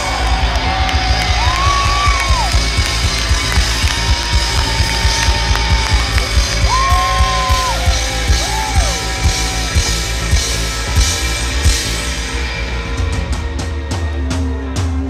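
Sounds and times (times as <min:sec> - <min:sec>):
rock band playing loudly: 0:00.0 - 0:15.0.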